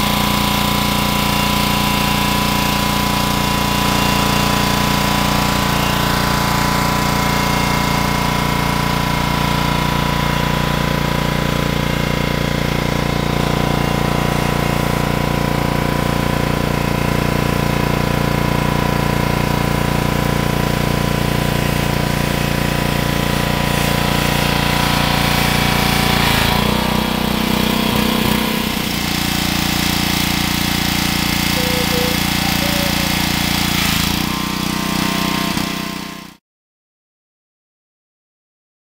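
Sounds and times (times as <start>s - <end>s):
engine idling: 0.0s - 35.8s.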